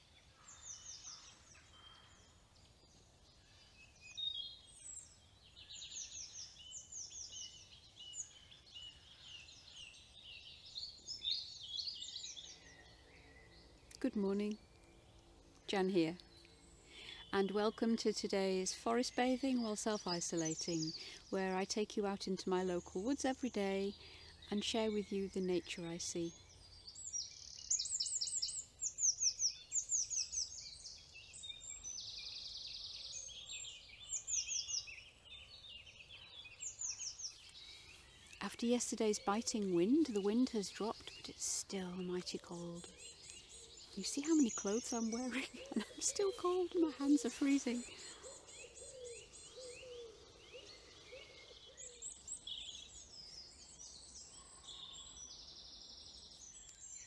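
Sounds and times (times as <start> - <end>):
songbirds chirping: 0.0 - 57.0
wild birds singing faintly: 0.0 - 57.0.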